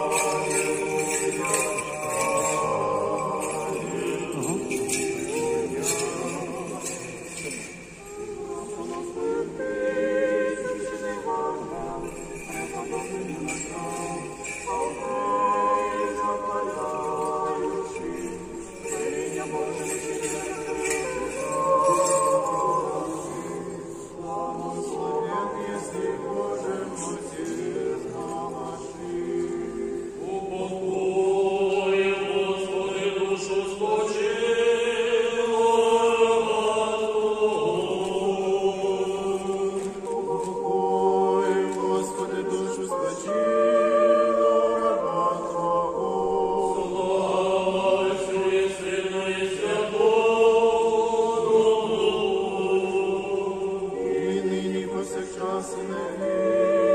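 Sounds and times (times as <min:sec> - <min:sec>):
church choir singing chant: 0:00.0 - 0:56.9.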